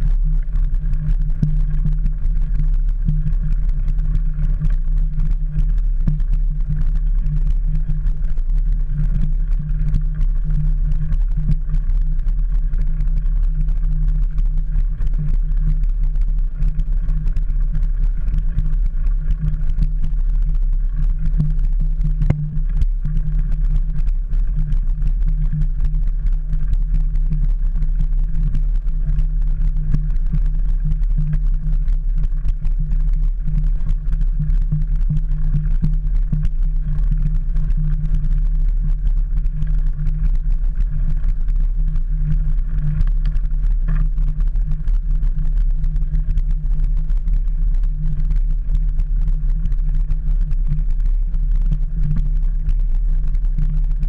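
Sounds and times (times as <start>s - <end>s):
bike tyres rumbling on gravel: 0.0s - 54.0s.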